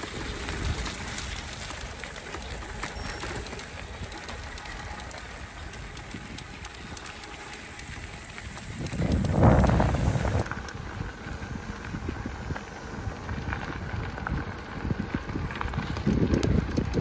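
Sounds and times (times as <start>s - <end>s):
bike tyres rolling on gravel: 0.0s - 17.0s.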